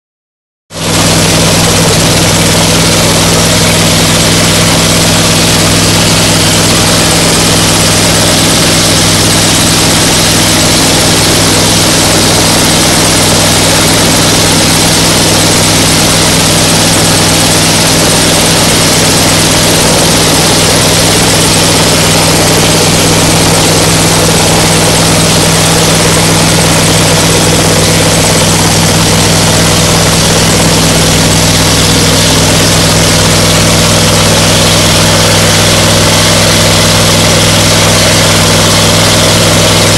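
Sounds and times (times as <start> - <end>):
wind machine engine drone: 0.7 - 39.9.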